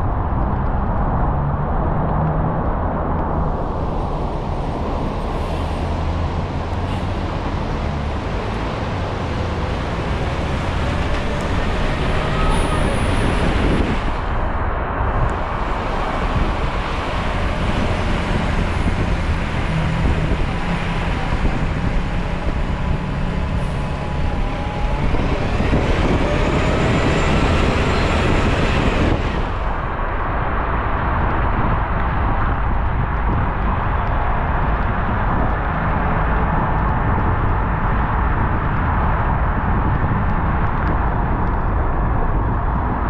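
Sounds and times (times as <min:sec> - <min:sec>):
low engine rumble: 0:00.0 - 0:43.0.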